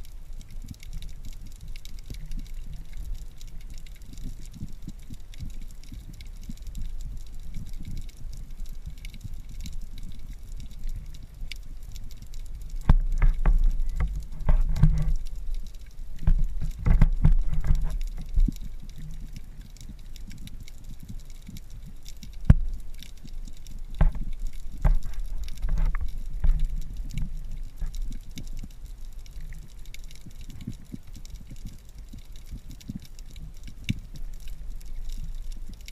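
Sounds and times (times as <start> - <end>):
underwater rumble of moving water: 0.0 - 35.9.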